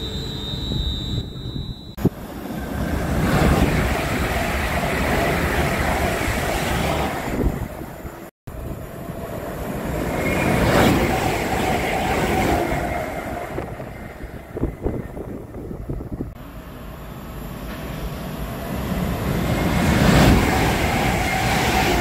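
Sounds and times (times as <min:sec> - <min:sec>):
train rumbling past: 0:02.0 - 0:22.0.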